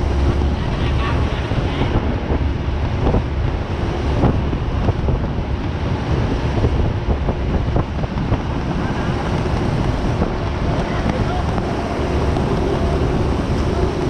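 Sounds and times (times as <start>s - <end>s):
low rumble: 0.0s - 14.0s
wind buffeting microphone: 0.0s - 14.0s.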